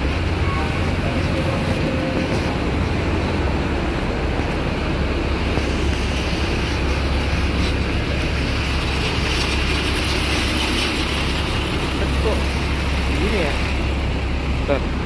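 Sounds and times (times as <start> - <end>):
bus engine rumbling: 0.0 - 15.0
street noise: 0.0 - 15.0.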